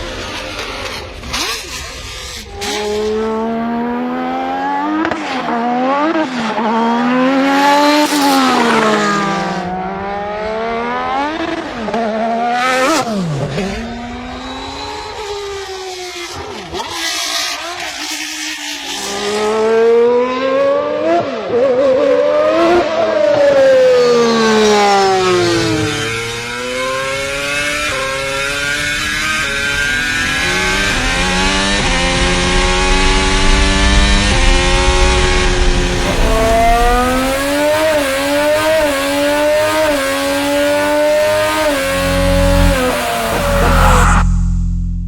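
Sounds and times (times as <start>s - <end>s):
racing car engine at high revs: 0.0s - 44.7s.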